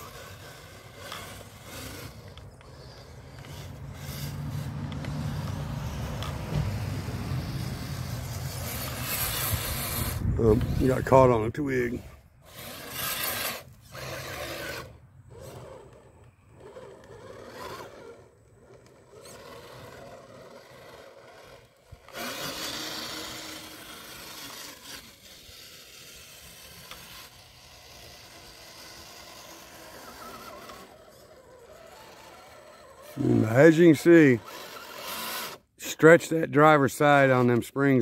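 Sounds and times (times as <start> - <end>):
electric motor whirring: 0.0 - 35.8
tyres scraping over soil: 0.0 - 38.0.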